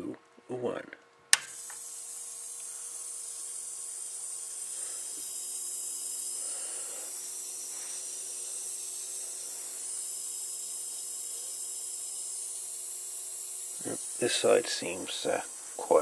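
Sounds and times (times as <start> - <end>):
faint steady hum tones: 0.0 - 16.0
power supply high hiss: 1.3 - 16.0.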